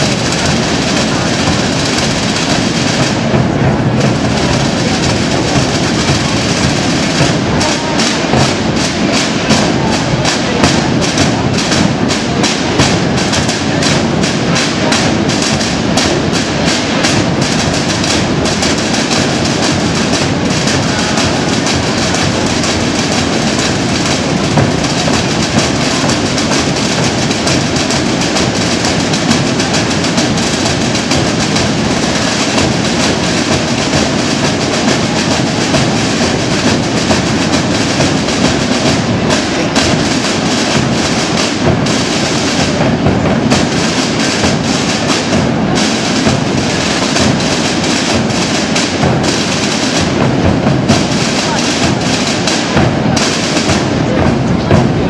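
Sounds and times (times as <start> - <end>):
marching drum band drumming: 0.0 - 55.0.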